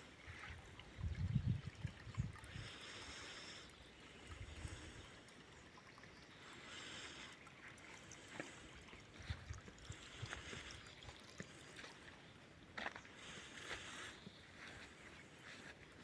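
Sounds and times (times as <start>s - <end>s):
water trickling from fountain spout: 0.0s - 16.0s.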